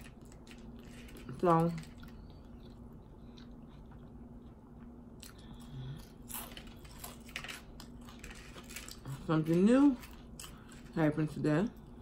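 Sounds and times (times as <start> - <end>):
chewing potato chips: 0.0 - 11.0.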